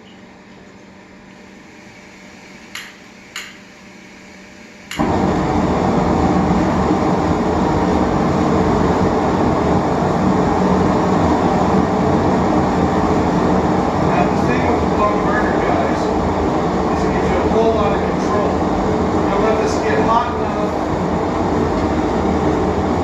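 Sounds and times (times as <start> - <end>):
gas forge burner roaring: 0.0 - 23.0.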